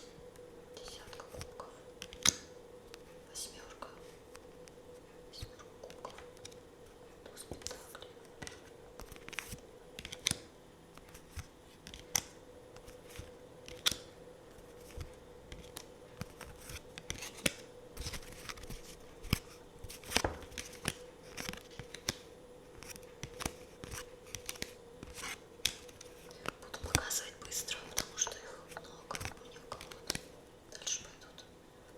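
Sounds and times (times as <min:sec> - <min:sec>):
faint steady hum: 0:00.0 - 0:31.9
cards being shuffled: 0:00.8 - 0:03.0, 0:04.3 - 0:06.6, 0:07.3 - 0:30.4.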